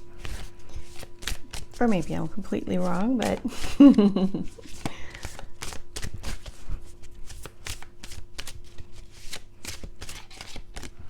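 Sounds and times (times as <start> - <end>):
cards being shuffled: 0.1 - 11.0.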